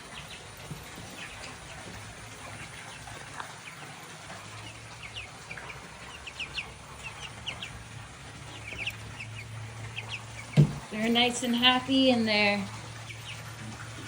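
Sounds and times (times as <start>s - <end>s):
chickens chirping and peeping: 0.0s - 14.0s.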